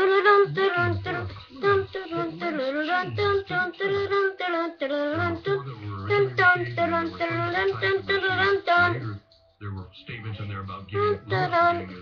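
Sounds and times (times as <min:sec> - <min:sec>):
low musical accompaniment: 0:00.0 - 0:12.0
person singing: 0:00.0 - 0:12.0.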